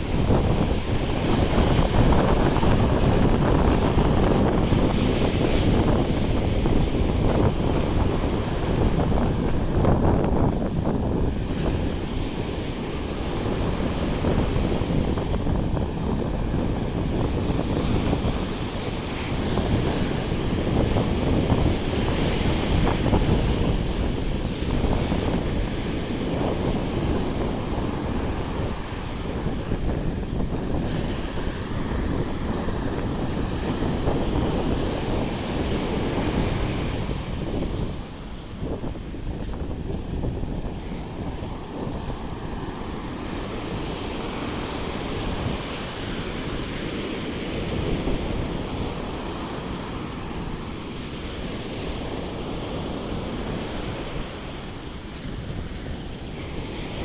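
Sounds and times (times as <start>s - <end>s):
sea surf washing onto beach: 0.0s - 57.0s
wind buffeting microphone: 0.0s - 57.0s.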